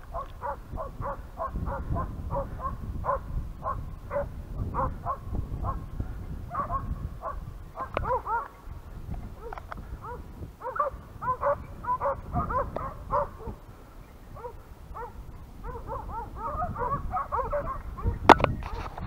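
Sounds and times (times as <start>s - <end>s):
dogs baying and yelping: 0.1s - 5.9s, 6.5s - 8.6s, 9.3s - 13.7s, 14.3s - 19.0s.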